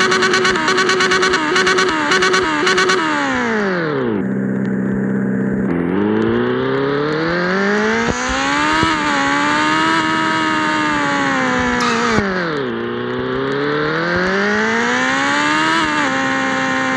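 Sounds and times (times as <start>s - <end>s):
loud motorcycle engine accelerating: 0.0s - 16.9s.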